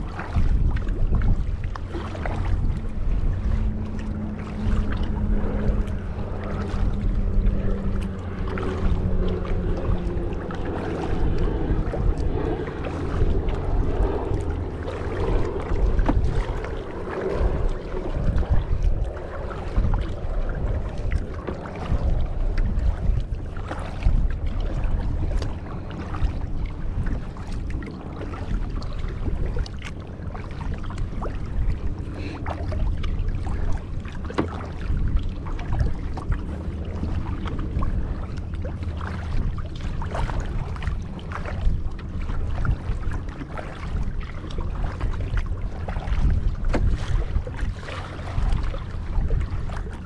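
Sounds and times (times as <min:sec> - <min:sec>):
kayak paddle splashing water: 0:00.0 - 0:50.0
wind buffeting microphone: 0:00.0 - 0:50.0.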